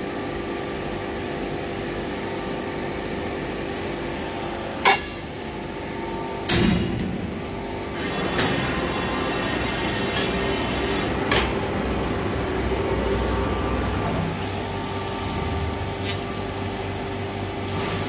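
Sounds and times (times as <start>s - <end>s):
laser cutting machine humming: 1.2s - 18.0s.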